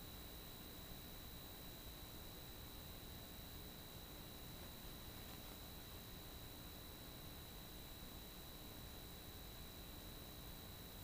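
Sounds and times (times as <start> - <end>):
constant high-pitched tone: 0.0 - 11.0
faint electronic hiss: 0.0 - 11.0.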